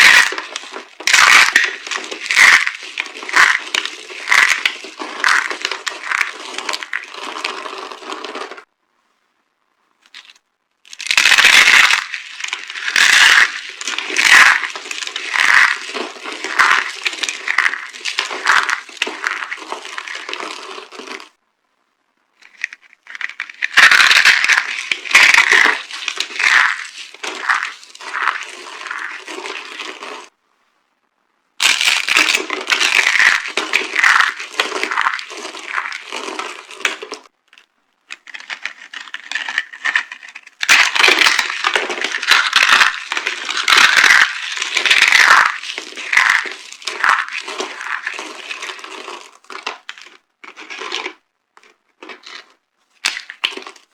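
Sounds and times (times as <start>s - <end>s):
dry soap crunching: 0.0s - 8.6s, 10.0s - 21.4s, 22.4s - 30.3s, 31.6s - 53.9s.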